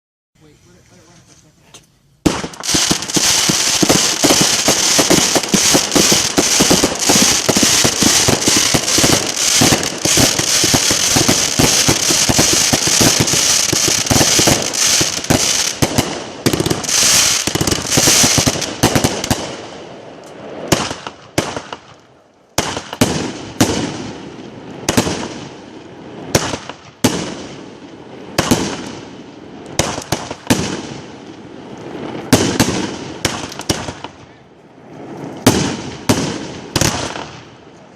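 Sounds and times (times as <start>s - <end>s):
fireworks bangs and crackling: 2.2s - 37.9s.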